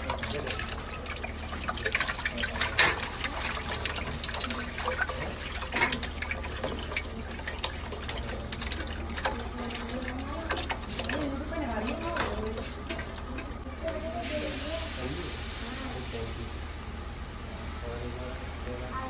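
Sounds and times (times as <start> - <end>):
eggs pouring and splashing: 0.0 - 16.5.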